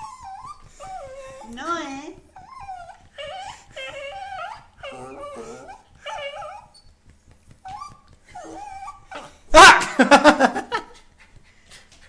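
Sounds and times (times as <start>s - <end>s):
dog whining: 0.0s - 9.8s.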